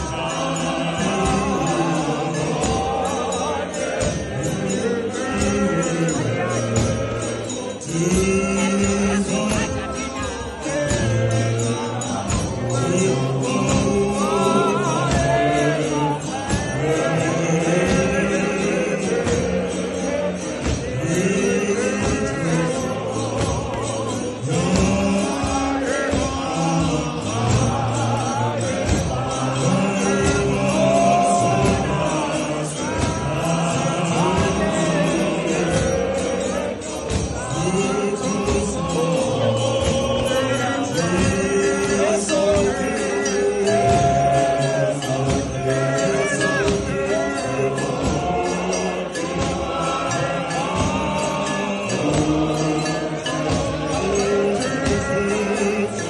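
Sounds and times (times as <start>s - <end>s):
men singing a hymn: 0.0s - 56.0s
rhythmic beat: 0.0s - 56.0s.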